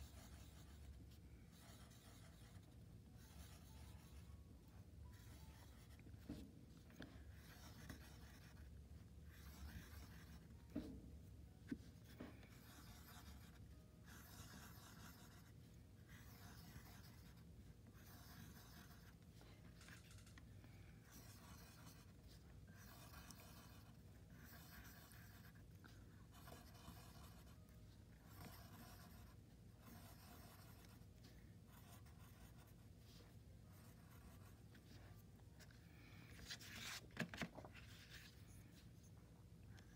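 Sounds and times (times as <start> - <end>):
stick scratching on paper: 0.0 - 10.9, 11.7 - 37.0.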